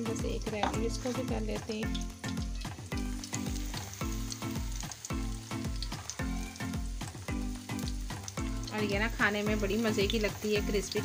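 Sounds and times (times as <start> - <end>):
background music with steady beat: 0.0 - 11.0
chillies sizzling in a frying pan: 0.0 - 11.0.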